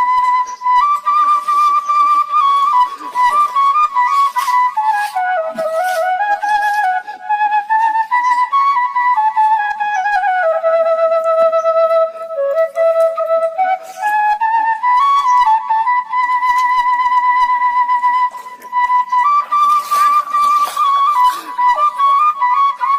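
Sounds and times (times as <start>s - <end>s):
solo flute melody: 0.0s - 22.9s.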